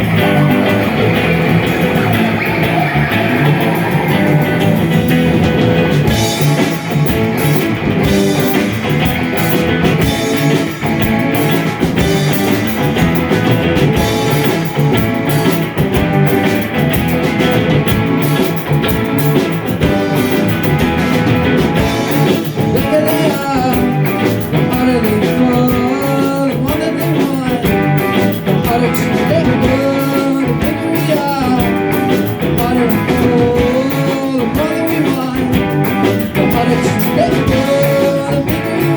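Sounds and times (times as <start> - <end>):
bending lead guitar melody: 0.0 - 38.9
live rock band playing: 0.0 - 38.9.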